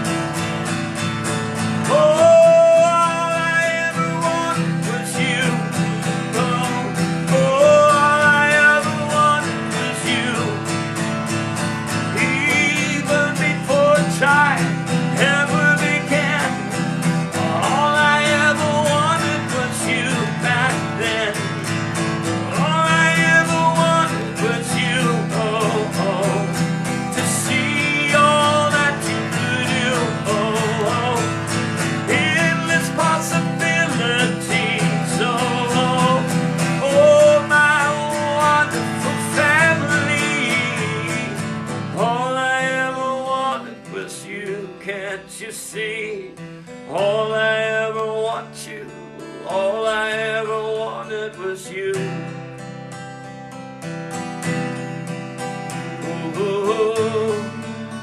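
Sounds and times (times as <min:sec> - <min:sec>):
acoustic guitar worship music: 0:00.0 - 0:58.0.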